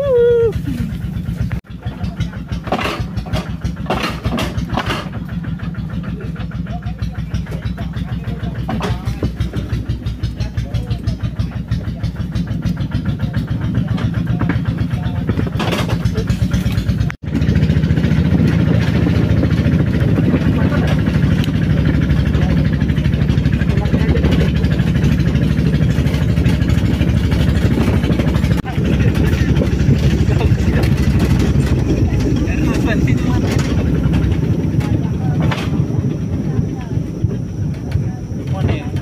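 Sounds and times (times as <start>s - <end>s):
rail cart engine running: 0.0s - 39.0s.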